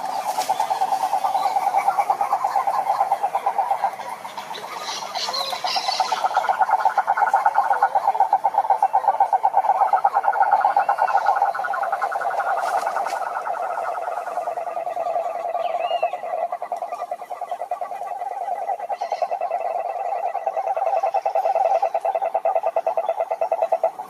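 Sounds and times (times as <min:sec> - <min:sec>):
frogs trilling: 0:00.0 - 0:24.0.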